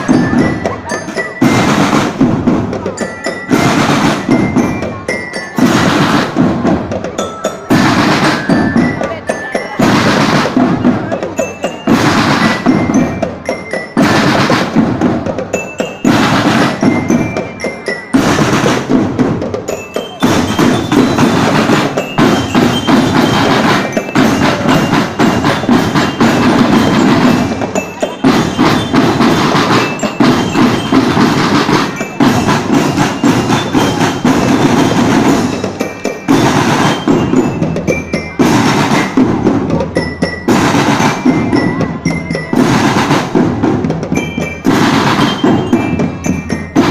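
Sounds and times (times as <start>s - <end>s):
glockenspiel bell notes: 0.0s - 46.9s
marching drums: 0.0s - 46.9s.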